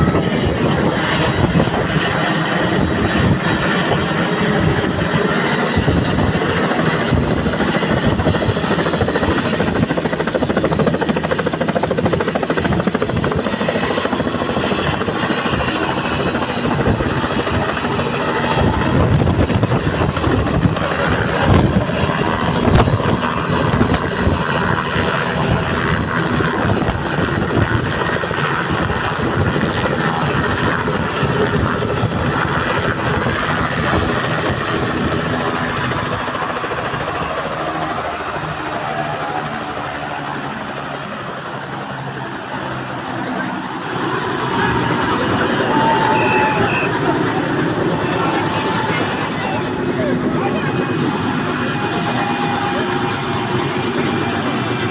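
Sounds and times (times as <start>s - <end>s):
helicopter rotor and engine: 0.0s - 54.9s.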